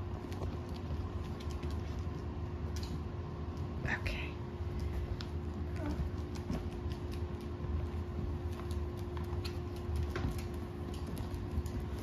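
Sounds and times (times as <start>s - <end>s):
steady low hum: 0.0s - 12.0s
dog claws clicking on floor: 0.1s - 3.0s, 4.7s - 12.0s.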